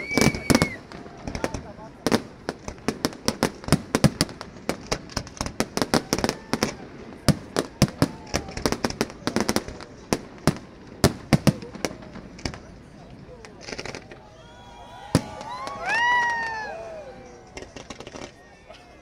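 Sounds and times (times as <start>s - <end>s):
fireworks bangs and crackles: 0.0s - 18.5s.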